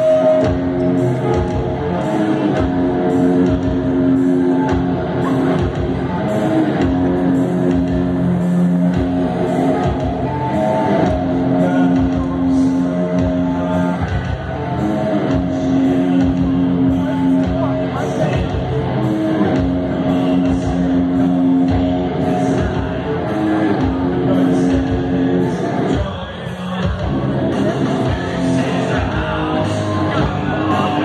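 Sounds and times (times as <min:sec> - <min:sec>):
drums with cymbal beat: 0:00.0 - 0:31.0
electric guitar chords: 0:00.0 - 0:31.0.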